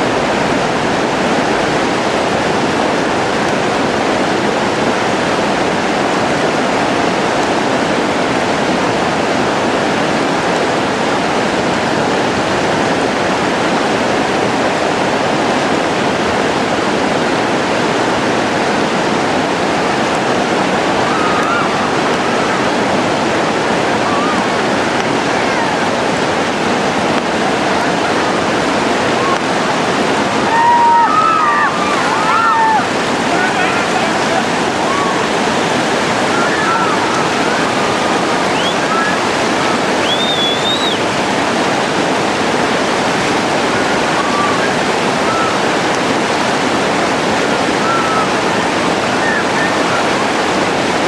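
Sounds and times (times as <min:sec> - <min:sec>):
whitewater river rapids rushing: 0:00.0 - 0:51.0.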